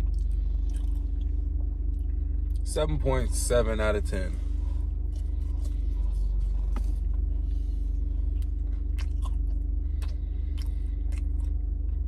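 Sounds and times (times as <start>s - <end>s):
person chewing food: 0.0s - 2.6s, 4.9s - 12.0s
low rumble inside car: 0.0s - 12.0s.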